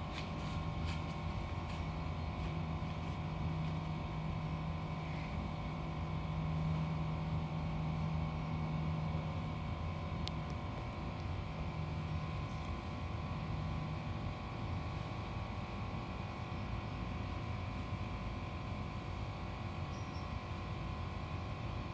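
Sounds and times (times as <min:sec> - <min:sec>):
mechanical hum: 0:00.0 - 0:21.9.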